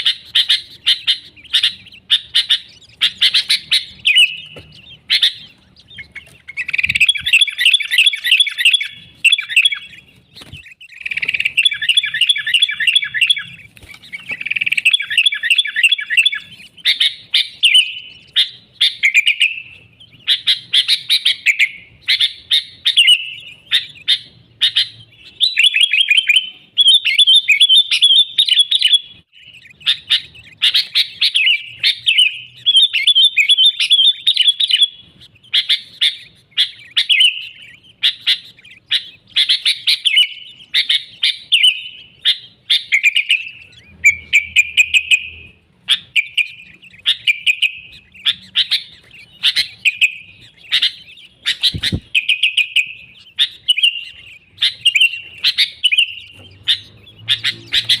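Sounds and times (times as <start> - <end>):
bulbul singing chirpy phrases: 0.0 - 58.0.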